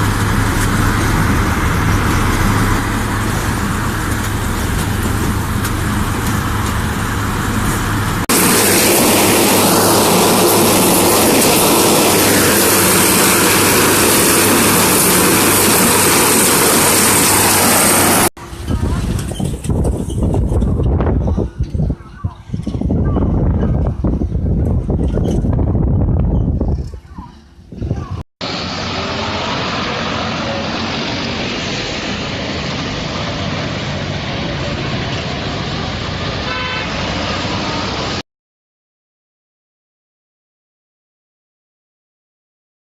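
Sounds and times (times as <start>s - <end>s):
low engine drone: 0.0s - 23.1s, 25.6s - 38.2s
harvester rushing noise: 0.0s - 38.2s.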